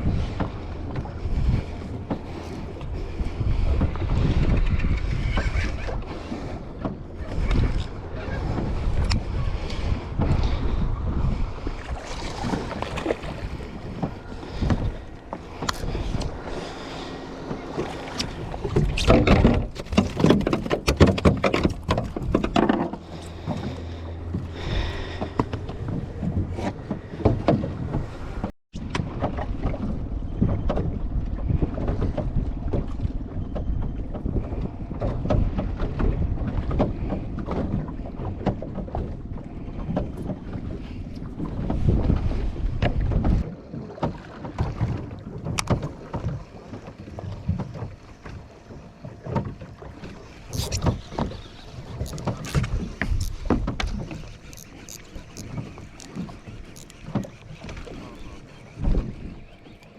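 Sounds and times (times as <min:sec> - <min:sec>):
wind buffeting microphone: 0:00.0 - 0:43.8, 0:44.5 - 0:59.9
boat hull noise: 0:00.0 - 0:59.9.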